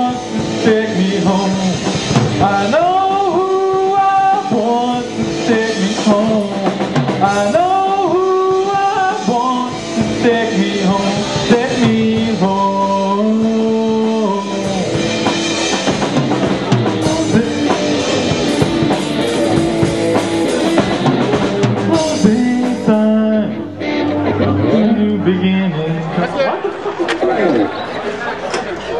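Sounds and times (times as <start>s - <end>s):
drum kit: 0.0s - 25.5s
bass guitar: 0.0s - 26.4s
electric guitar sliding notes: 0.0s - 26.4s.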